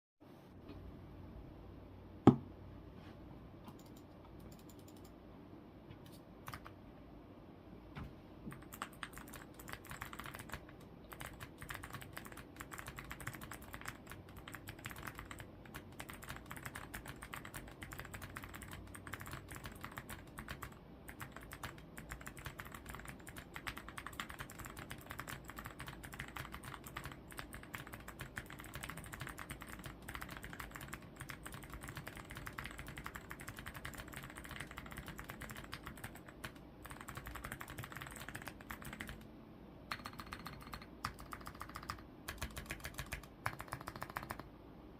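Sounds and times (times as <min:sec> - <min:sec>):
typing on mechanical keyboard: 0:03.7 - 0:05.1, 0:06.0 - 0:06.8, 0:08.5 - 0:39.3, 0:39.9 - 0:44.5.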